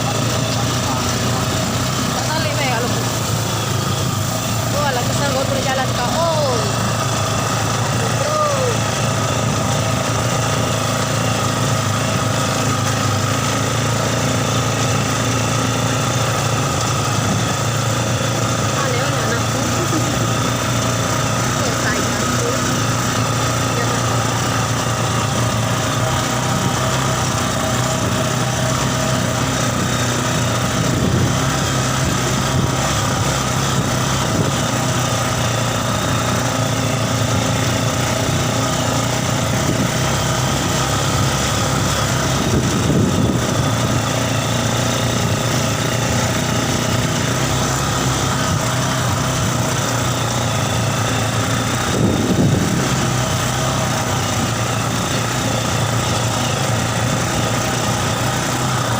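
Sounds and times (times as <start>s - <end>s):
motorcycle engine running steadily: 0.0s - 58.9s.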